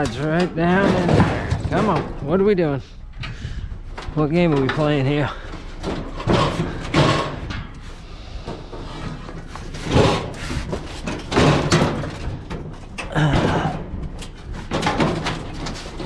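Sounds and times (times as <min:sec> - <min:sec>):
metal scrap clanking and scraping: 0:00.0 - 0:02.4, 0:03.9 - 0:16.0.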